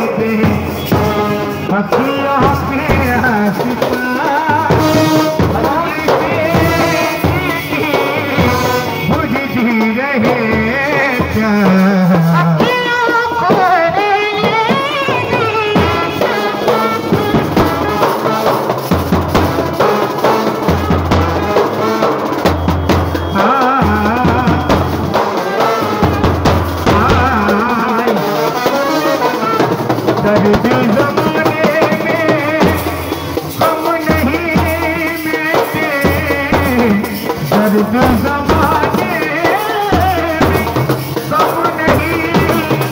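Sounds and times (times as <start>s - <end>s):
large band drum beating: 0.0s - 42.9s
street band melody: 0.0s - 42.9s.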